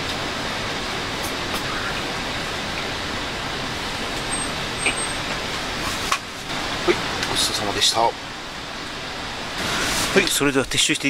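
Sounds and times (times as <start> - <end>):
rain falling on a tent: 0.0 - 11.0.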